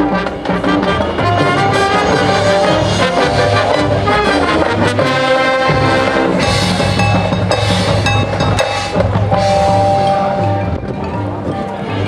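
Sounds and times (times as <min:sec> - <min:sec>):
marching band playing: 0:00.0 - 0:12.0.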